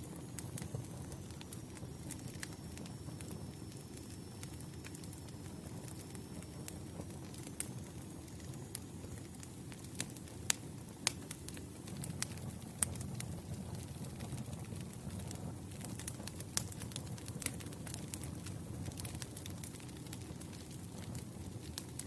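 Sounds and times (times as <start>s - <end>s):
campfire flames rumbling: 0.0s - 22.0s
fire crackling and popping: 0.0s - 22.0s.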